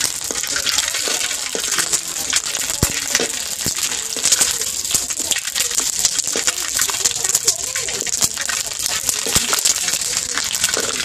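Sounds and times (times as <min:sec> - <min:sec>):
frying in hot oil: 0:00.0 - 0:11.0.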